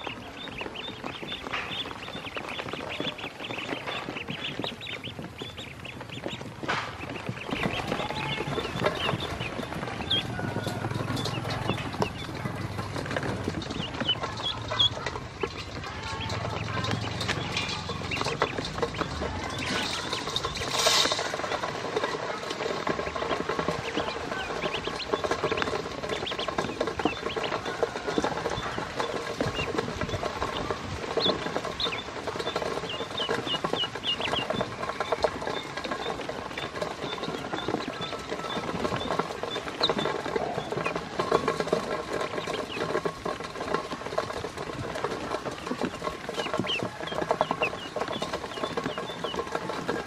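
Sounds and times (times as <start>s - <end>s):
ducklings peeping: 0.0s - 50.0s
bills tapping on metal bowl: 5.4s - 50.0s.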